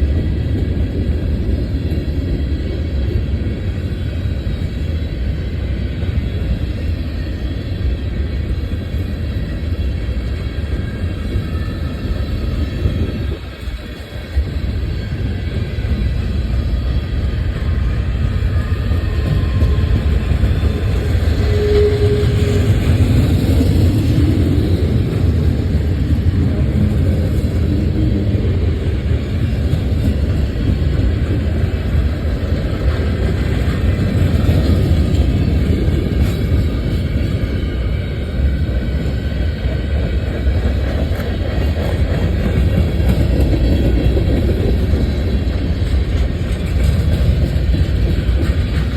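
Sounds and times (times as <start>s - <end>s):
train passing with low rumble: 0.0s - 48.9s.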